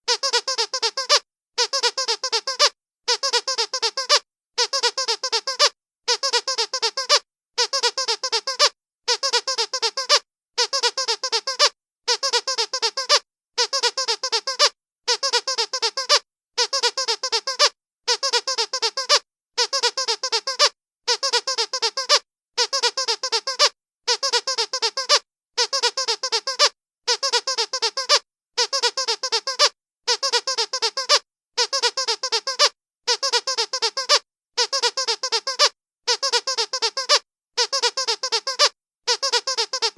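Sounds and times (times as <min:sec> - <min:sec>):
dog squeaky toy squeaking: 0:00.1 - 0:39.9.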